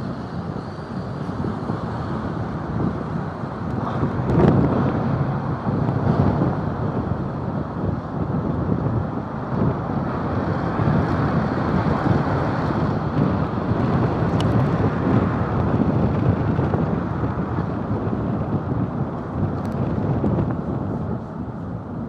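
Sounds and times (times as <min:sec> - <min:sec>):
vehicle road noise: 0:00.0 - 0:22.0
wind buffeting microphone: 0:00.0 - 0:22.0.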